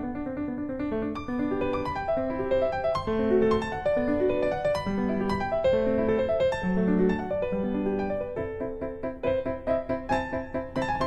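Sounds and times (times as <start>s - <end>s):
lively piano melody: 0.0s - 11.0s.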